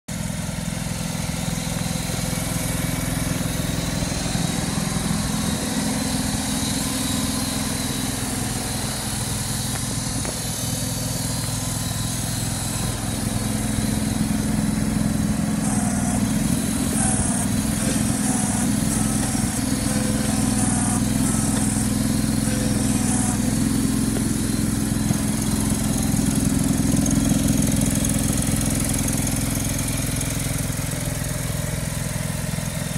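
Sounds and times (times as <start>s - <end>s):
garden tractor engine running: 0.1s - 32.9s.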